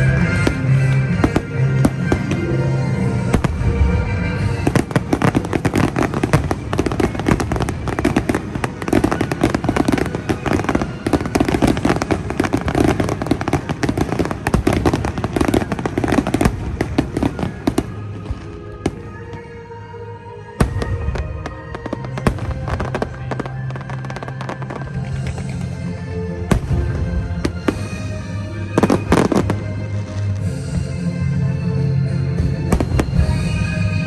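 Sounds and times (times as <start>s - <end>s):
fireworks crackling: 0.0s - 31.1s, 32.6s - 34.0s
music playing: 0.0s - 34.0s.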